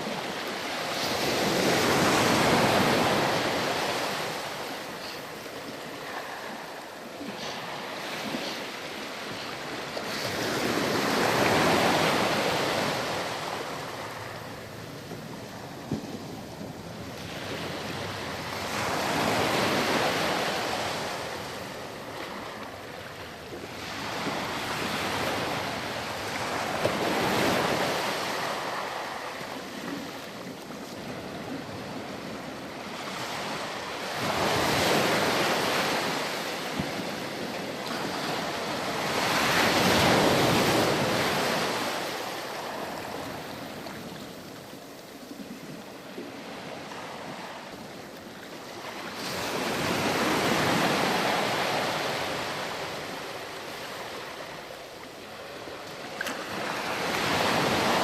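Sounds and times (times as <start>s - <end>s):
ocean surf breaking on shore: 0.0s - 58.0s.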